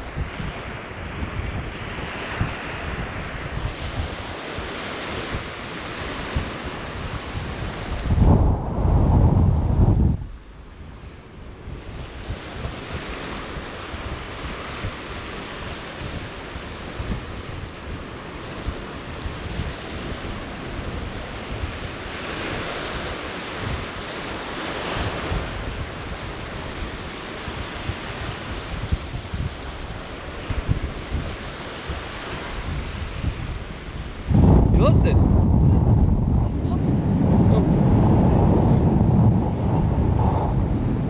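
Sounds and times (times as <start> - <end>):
surf breaking on sandy beach: 0.0 - 41.0
wind buffeting microphone: 0.0 - 41.0.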